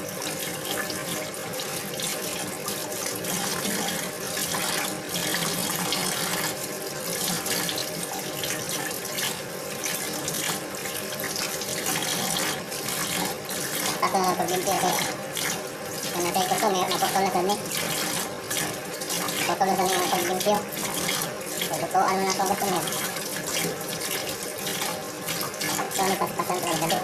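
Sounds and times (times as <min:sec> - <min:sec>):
tap water running into a sink: 0:00.0 - 0:27.0.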